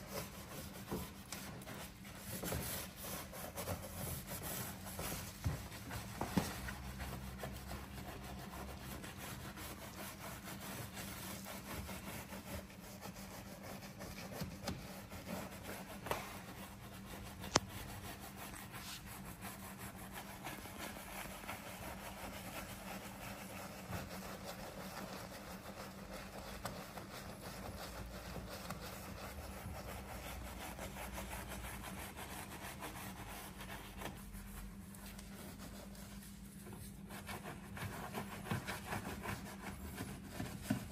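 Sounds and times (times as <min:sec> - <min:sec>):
brush scrubbing: 0:00.0 - 0:40.9.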